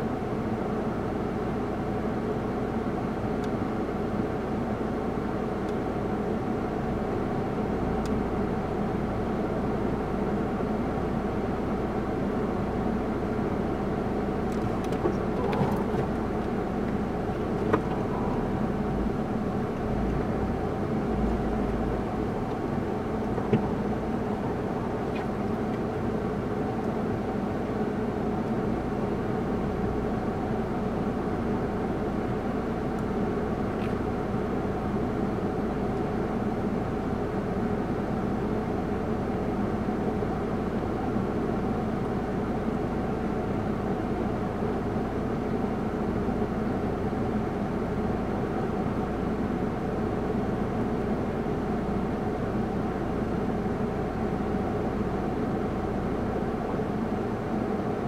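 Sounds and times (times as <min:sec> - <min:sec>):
car engine hum inside cabin: 0:00.0 - 0:58.0.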